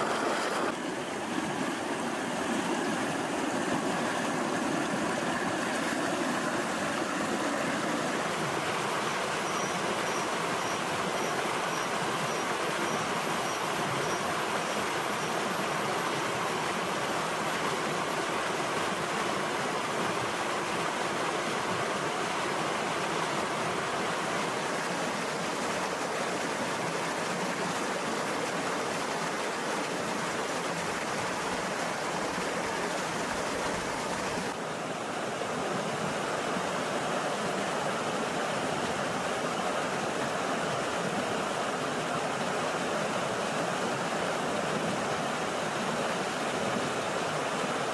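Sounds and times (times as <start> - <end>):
river rushing over stones: 0.0 - 47.9.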